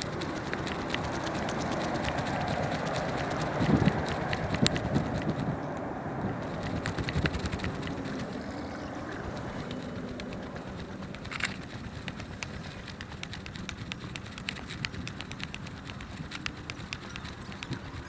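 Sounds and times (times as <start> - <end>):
footsteps on paved path: 0.0 - 18.0.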